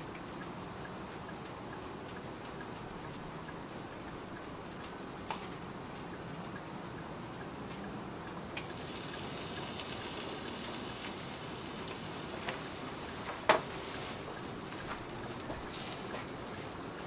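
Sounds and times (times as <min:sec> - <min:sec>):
light ticks: 0:00.0 - 0:17.0
steady low hiss: 0:00.0 - 0:17.0.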